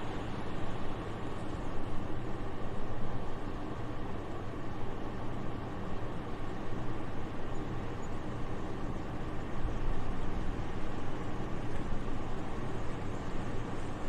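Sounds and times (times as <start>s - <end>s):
soft steady wind: 0.0s - 14.0s.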